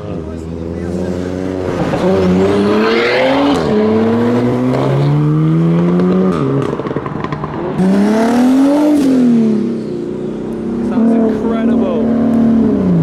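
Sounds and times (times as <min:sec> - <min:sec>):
car engine accelerating: 0:00.0 - 0:13.0
car engine revving: 0:00.0 - 0:13.0.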